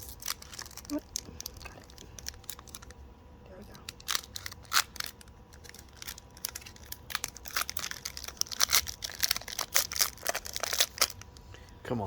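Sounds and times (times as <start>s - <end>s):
foil wrapper tearing and crinkling: 0.0s - 3.0s, 3.7s - 11.4s.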